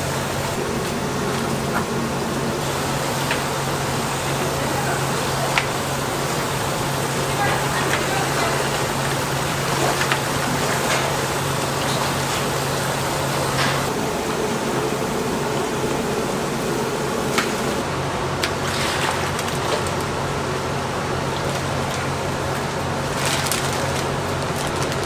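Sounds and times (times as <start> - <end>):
kitchen equipment hum: 0.0 - 25.0.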